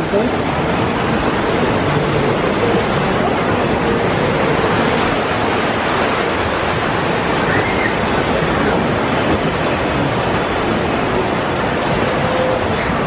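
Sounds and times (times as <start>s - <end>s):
rushing and splashing water: 0.0s - 13.0s.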